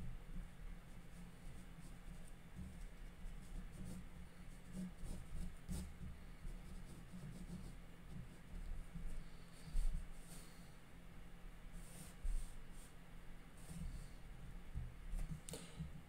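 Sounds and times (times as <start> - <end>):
low steady hum: 0.0 - 16.0
paintbrush strokes on paper: 0.3 - 10.8, 11.7 - 15.9.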